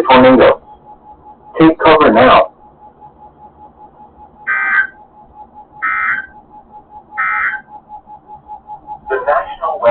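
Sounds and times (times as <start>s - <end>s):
digital warbling data tones: 0.0s - 9.9s.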